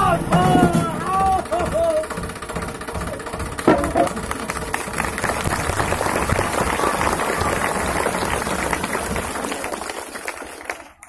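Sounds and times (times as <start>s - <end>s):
crowd clapping and shouting: 0.0s - 2.2s, 2.9s - 11.0s
tractor diesel engine rumbling: 0.0s - 11.0s.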